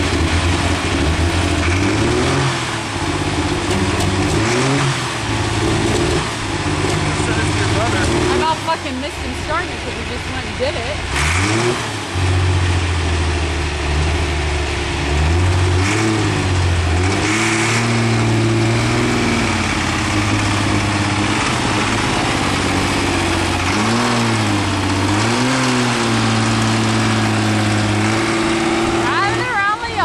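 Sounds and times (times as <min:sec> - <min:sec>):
diesel tractor engine revving: 0:00.0 - 0:30.0.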